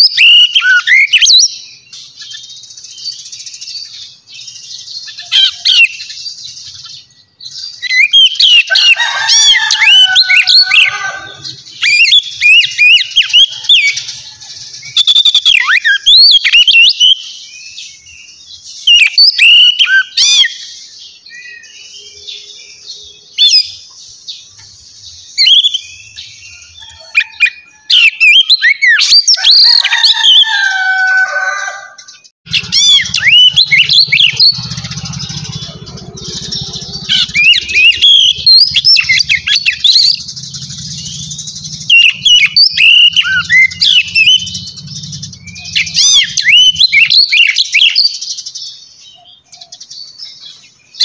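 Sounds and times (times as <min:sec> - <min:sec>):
lower bird calls: 0:00.0 - 0:30.6, 0:31.2 - 0:51.0
birds chirping: 0:00.0 - 0:51.0.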